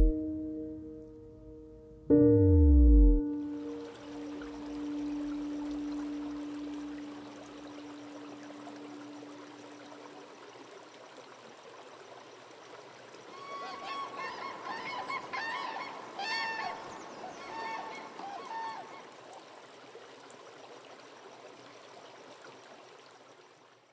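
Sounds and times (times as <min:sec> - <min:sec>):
water trickling in a stream: 0:03.3 - 0:23.9.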